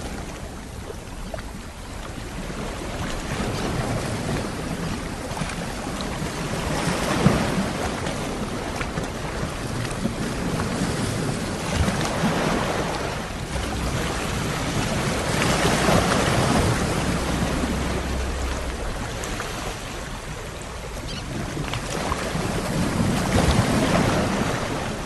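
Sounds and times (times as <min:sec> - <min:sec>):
sea waves washing onto shore: 0:00.0 - 0:25.0.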